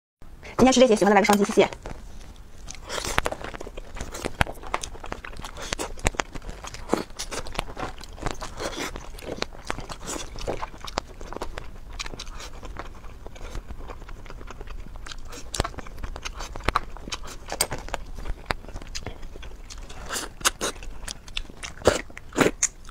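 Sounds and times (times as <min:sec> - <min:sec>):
chewing and crunching: 0:01.2 - 0:22.9.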